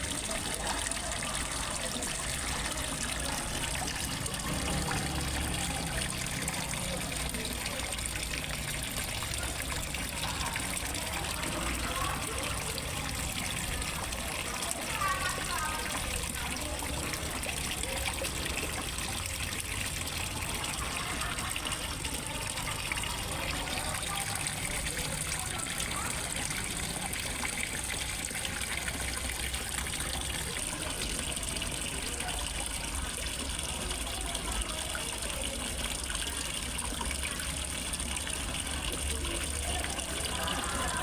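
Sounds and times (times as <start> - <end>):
water splashing into pond: 0.0 - 41.0.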